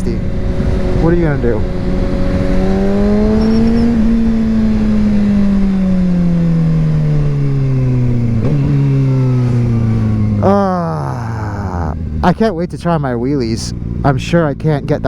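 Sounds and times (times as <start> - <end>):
motorcycle engine under way: 0.0 - 15.0.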